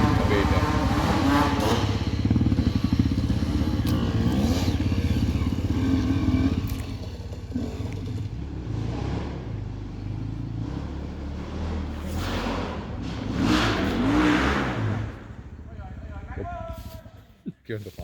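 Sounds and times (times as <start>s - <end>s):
motorcycle engine revving: 0.0s - 17.4s.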